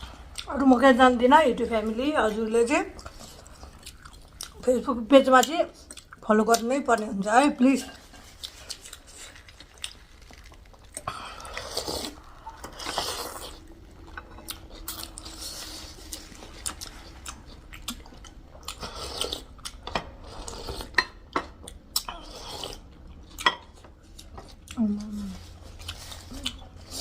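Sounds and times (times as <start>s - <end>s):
chewing and crunching food: 0.0s - 27.0s.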